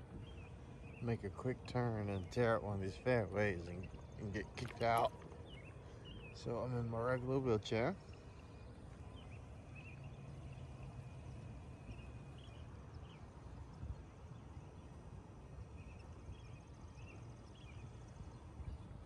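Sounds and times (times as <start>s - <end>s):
bird chirps: 0.0s - 19.0s
low outdoor rumble: 0.0s - 19.0s.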